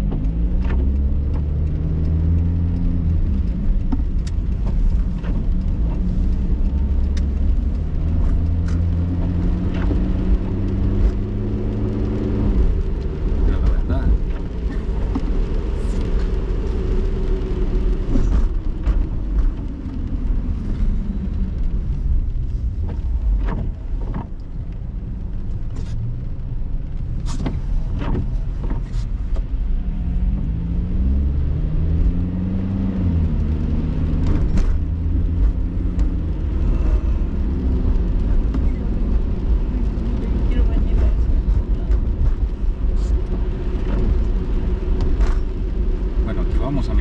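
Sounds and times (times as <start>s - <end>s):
car engine rumble: 0.0s - 47.0s.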